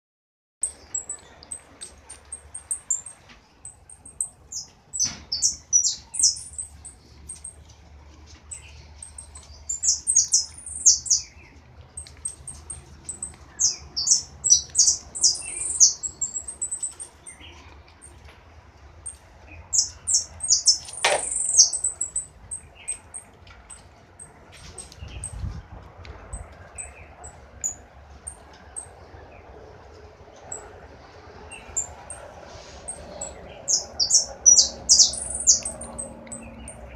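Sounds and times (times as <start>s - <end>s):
songbird chirping and trilling: 0.6s - 18.3s, 19.0s - 36.9s.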